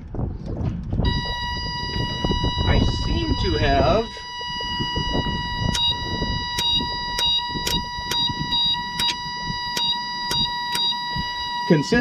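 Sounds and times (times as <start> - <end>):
steady high-pitched tone: 1.1 - 12.0.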